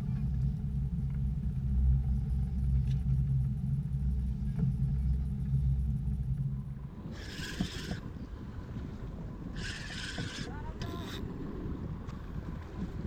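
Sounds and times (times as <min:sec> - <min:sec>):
boat engine rumbling: 0:00.0 - 0:13.0
wind: 0:00.0 - 0:13.0.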